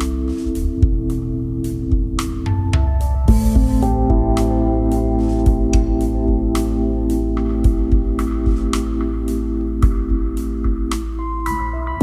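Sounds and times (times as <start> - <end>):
sustained chords music: 0.0 - 12.0.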